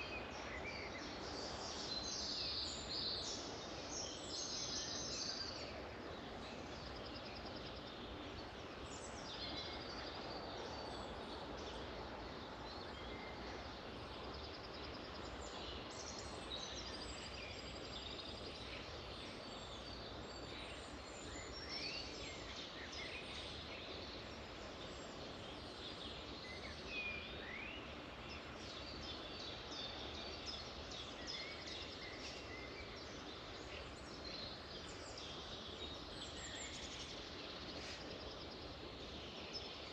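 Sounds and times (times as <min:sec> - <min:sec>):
forest ambience hiss: 0:00.0 - 0:39.9
songbirds singing and calling: 0:00.0 - 0:39.9.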